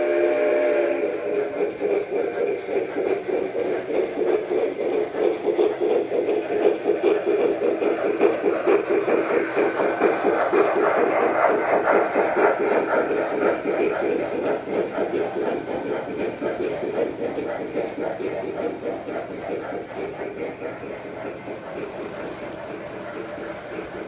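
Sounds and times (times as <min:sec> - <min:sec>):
model steam locomotive chugging: 0:00.0 - 0:24.0.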